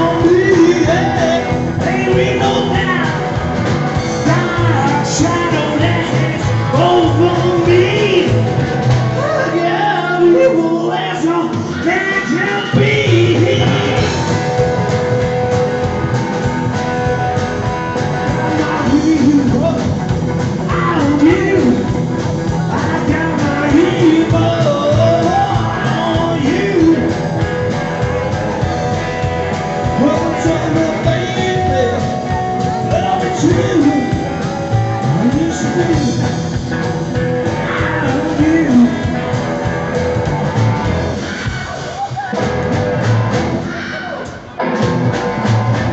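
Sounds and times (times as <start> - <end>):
upright double bass: 0.0 - 41.7, 42.3 - 43.7, 44.8 - 45.9
drum kit: 0.0 - 45.9
electric guitar: 0.0 - 45.9.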